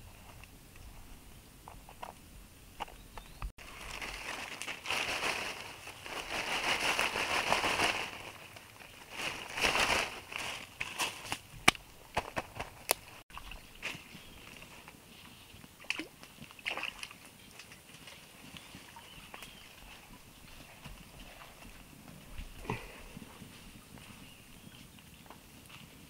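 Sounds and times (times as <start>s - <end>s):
leaves rustling: 3.6s - 26.0s.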